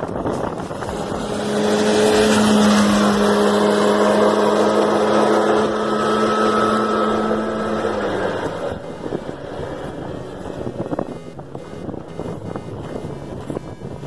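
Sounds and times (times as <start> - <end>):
snowmobile driving past: 0.7 - 13.7.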